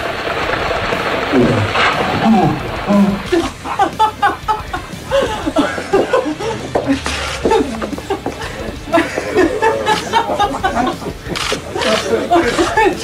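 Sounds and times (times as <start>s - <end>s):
voices talking: 1.4s - 13.0s
people laughing: 2.3s - 13.0s.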